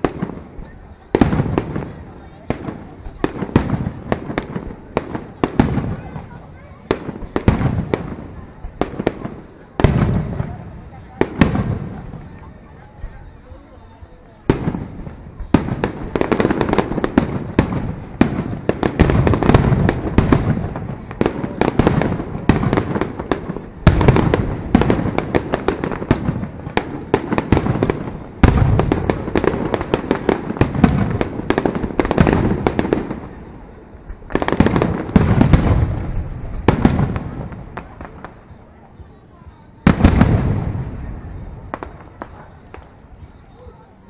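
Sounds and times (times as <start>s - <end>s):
fireworks bursts and crackling: 0.0s - 44.0s
loud fireworks bangs: 0.0s - 44.0s.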